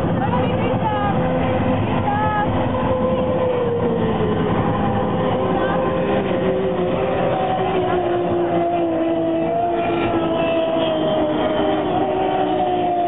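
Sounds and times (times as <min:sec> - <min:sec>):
powerboat engines droning: 0:00.0 - 0:13.0.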